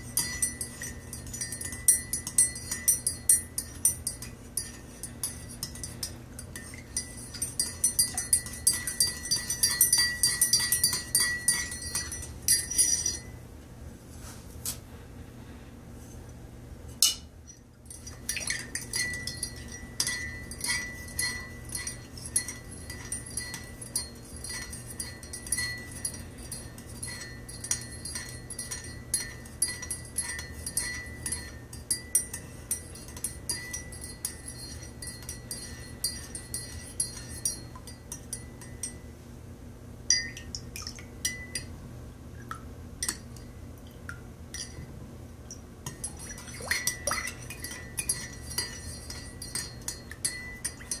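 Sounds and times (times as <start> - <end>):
spoon clinking in ceramic mug: 0.0 - 13.4, 17.0 - 39.0, 40.1 - 41.7, 43.0 - 43.5, 44.5 - 44.8, 45.8 - 51.0.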